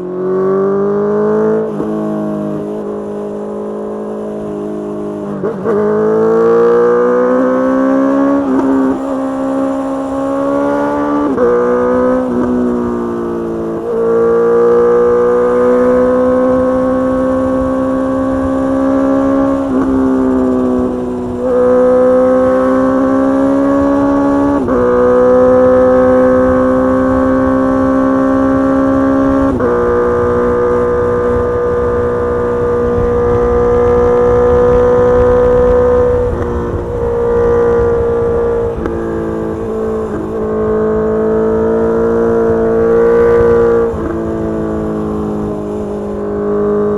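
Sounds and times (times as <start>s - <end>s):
motorcycle engine shifting gears: 0.0s - 46.9s.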